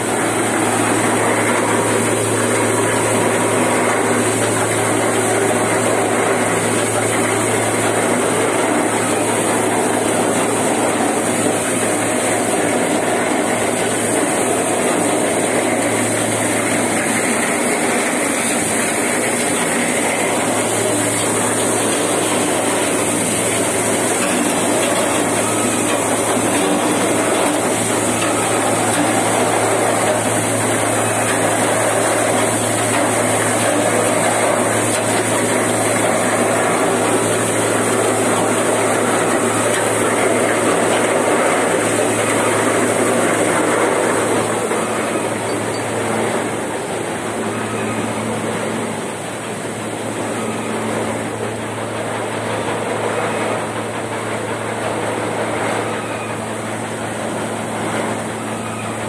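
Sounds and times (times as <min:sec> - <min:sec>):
grain streaming: 0:00.0 - 0:59.0
seed cleaner machine rattling: 0:00.0 - 0:59.0.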